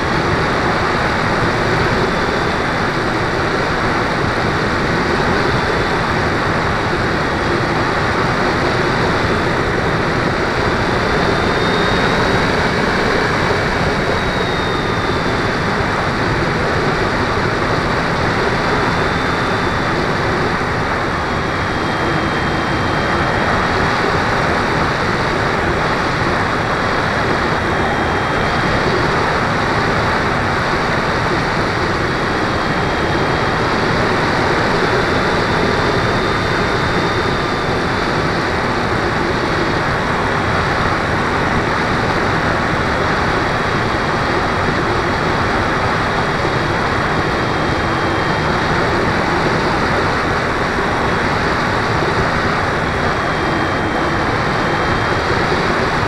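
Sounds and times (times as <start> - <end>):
high motor whine: 0.0 - 56.0.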